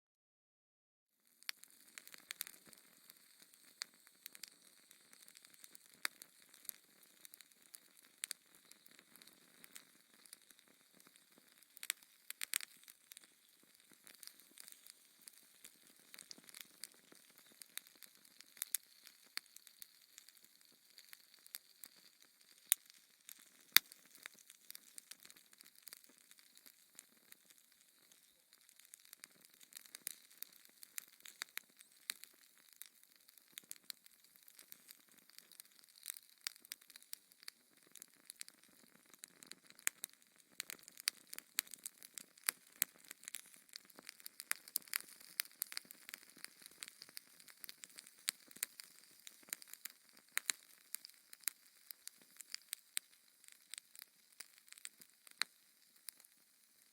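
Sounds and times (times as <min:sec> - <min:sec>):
fire crackling and popping: 0:01.2 - 0:56.9.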